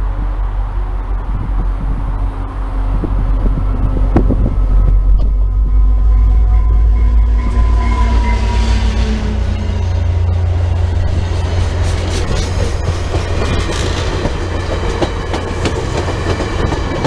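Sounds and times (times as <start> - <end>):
diesel locomotive rumbling past: 0.0 - 17.0.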